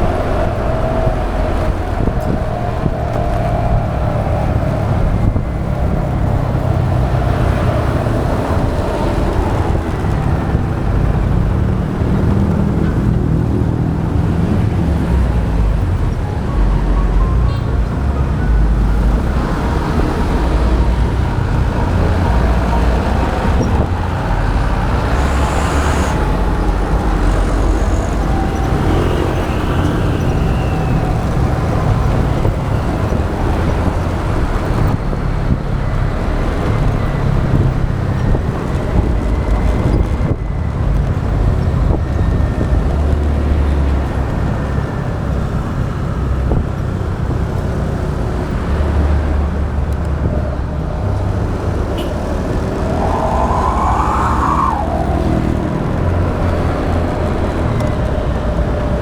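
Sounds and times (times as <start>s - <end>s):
passing vehicles: 0.0s - 59.0s
wind noise: 0.0s - 59.0s.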